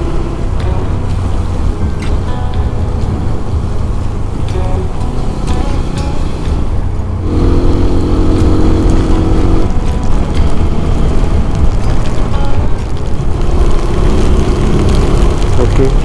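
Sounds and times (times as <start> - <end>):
motorcycle engine: 0.0 - 16.0
steady pitched tone: 0.0 - 16.0
wind rumble on microphone: 0.0 - 16.0.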